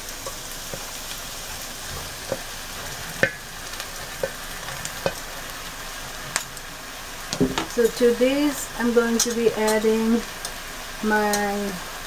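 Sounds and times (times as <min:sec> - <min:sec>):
eggplant sizzling in frying pan: 0:00.0 - 0:12.0.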